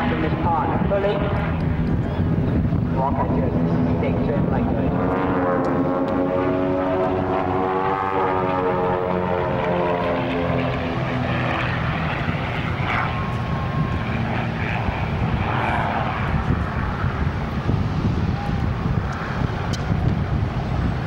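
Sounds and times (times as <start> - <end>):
propeller plane engines droning: 0.0 - 21.0.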